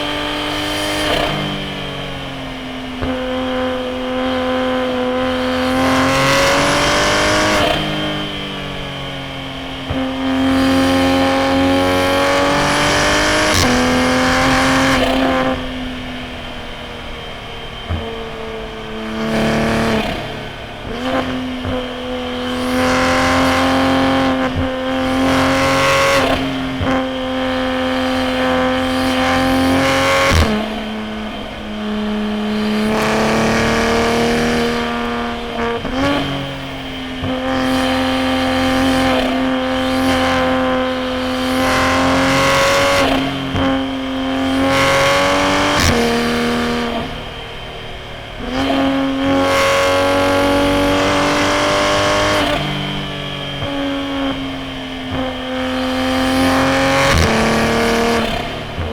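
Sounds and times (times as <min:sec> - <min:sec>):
car engine accelerating through gears: 0:00.0 - 0:58.9.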